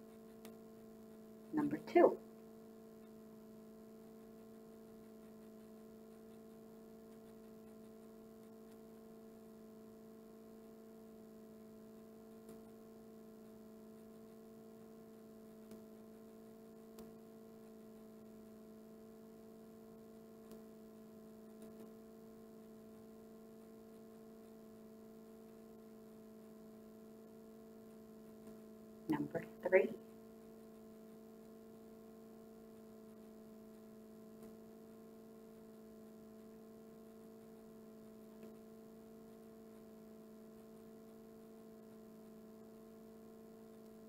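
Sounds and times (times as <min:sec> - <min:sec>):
faint room hum: 0:00.0 - 0:44.0.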